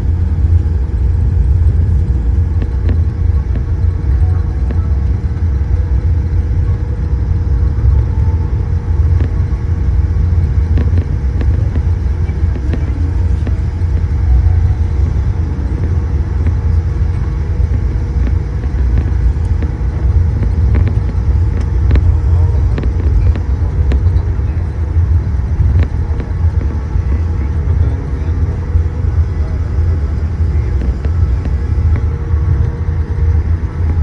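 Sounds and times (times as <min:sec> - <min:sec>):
airliner cabin rumble: 0:00.0 - 0:34.0.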